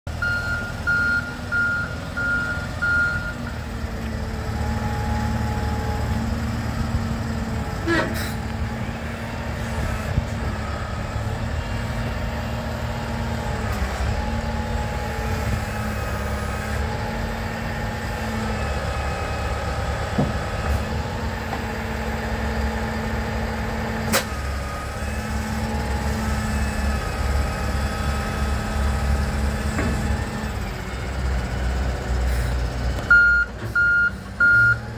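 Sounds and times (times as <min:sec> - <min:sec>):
diesel engine running under load: 0:00.1 - 0:34.9.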